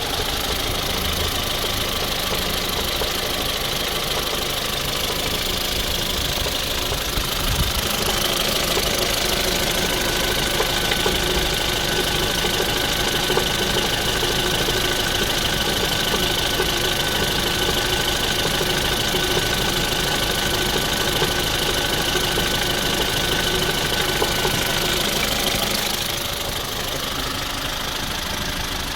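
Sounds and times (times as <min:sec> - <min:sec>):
car engine running: 0:00.0 - 0:28.9
fast ticking from engine: 0:00.0 - 0:28.9.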